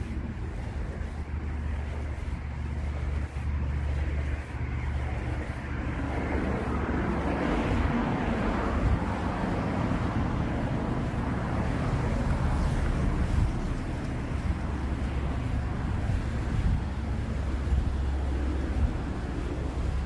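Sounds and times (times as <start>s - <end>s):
street traffic rumble: 0.0s - 20.0s
vehicle passing: 0.0s - 20.0s.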